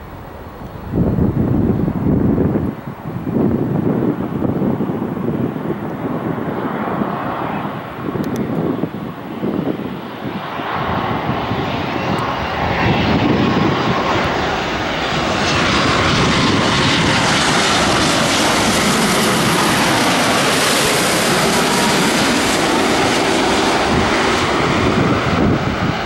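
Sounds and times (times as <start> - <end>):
jet airliner engines: 0.0 - 26.0.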